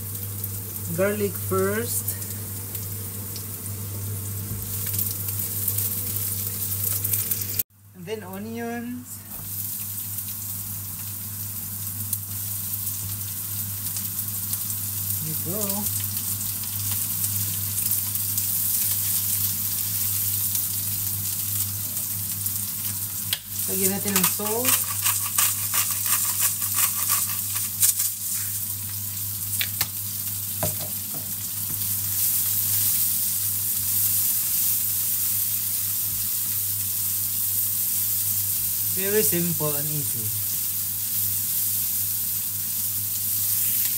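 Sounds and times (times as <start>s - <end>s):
onion sizzling in a pan: 0.0s - 43.9s.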